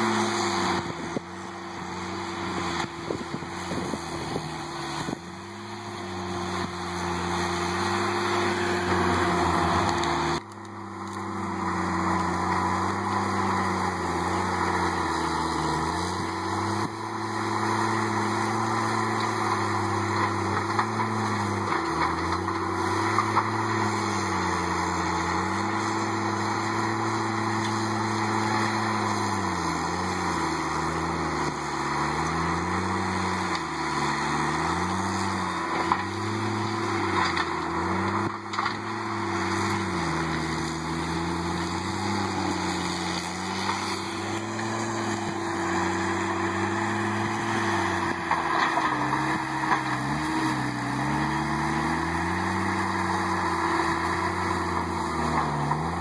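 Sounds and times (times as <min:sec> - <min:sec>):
diesel engine lugging under load: 0:00.0 - 0:56.0.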